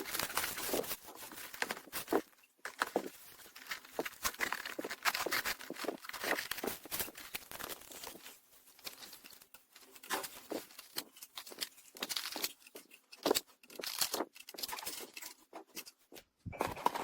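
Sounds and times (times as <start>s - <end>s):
rustling and crinkling of handling: 0.0s - 17.0s.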